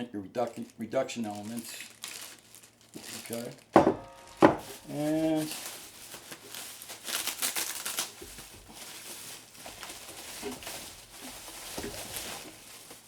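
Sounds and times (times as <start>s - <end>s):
packaging rustling: 0.5s - 13.0s.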